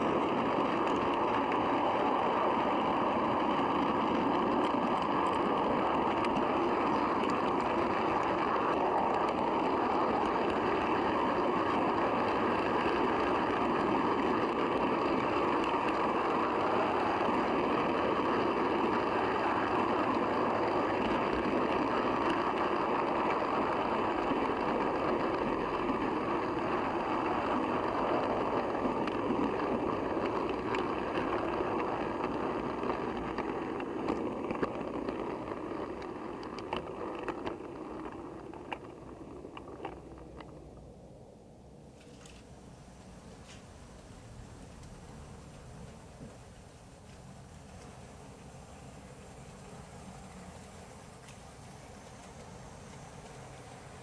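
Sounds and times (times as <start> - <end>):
model train wheels rumbling on rails: 0.0 - 54.0.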